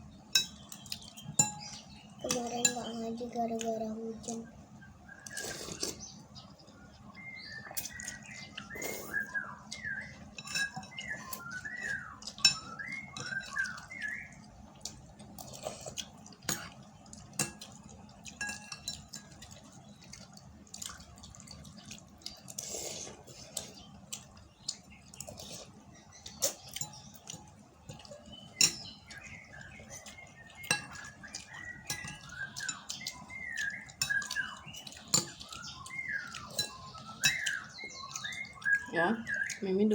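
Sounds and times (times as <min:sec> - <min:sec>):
small bird chirping: 0:00.0 - 0:39.9
utensils clinking against a bowl: 0:00.3 - 0:03.6, 0:07.8 - 0:39.9.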